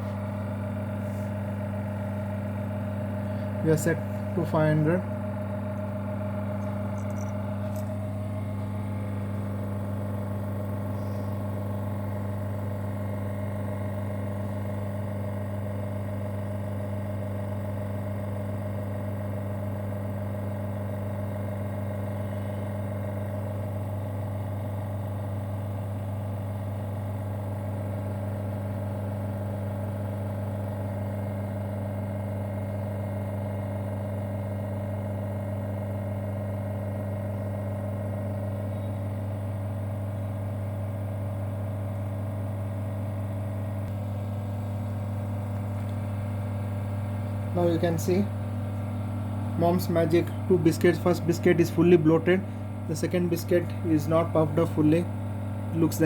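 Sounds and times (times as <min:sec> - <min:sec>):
vacuum pump humming: 0:00.0 - 0:56.0.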